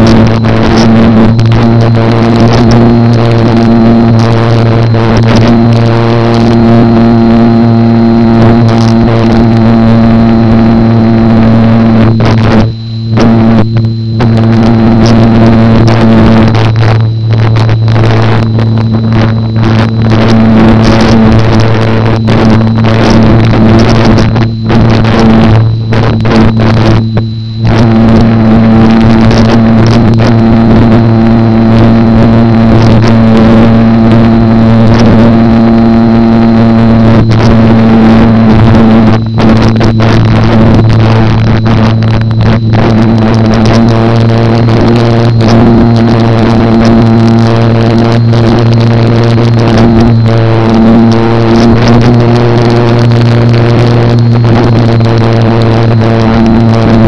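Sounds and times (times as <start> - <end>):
electric motor and propeller: 0.0 - 57.0.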